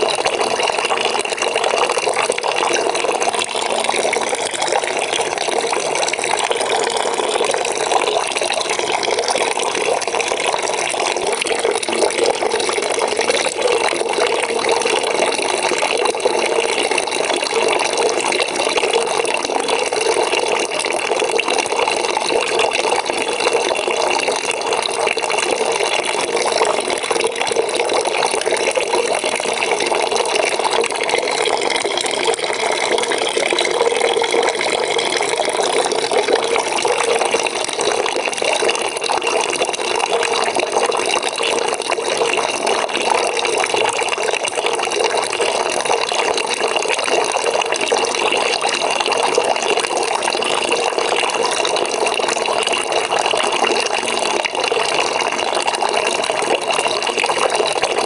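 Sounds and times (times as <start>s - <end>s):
tap filling bucket with water: 0.0s - 58.0s.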